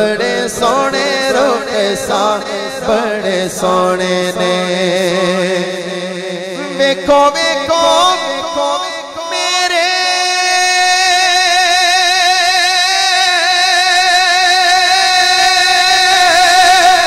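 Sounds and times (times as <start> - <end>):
man singing long note: 0.0 - 17.0.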